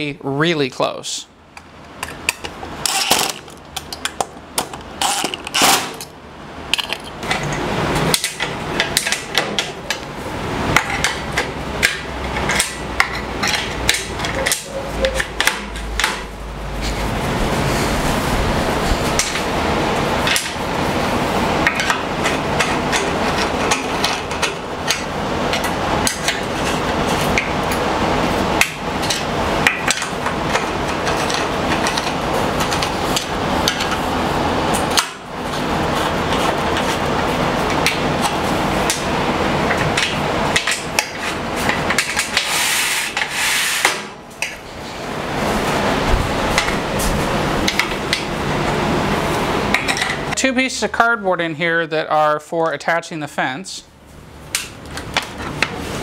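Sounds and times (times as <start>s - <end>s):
noisy background: 0.0s - 56.0s.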